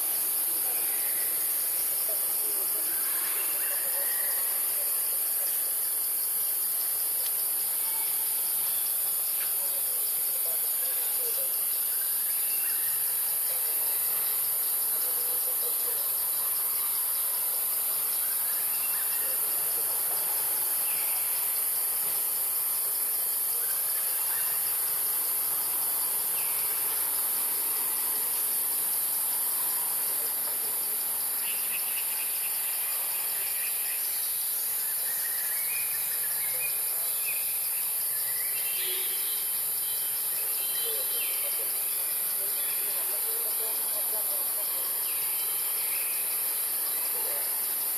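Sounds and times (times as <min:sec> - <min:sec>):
insects buzzing: 0:00.0 - 0:47.9.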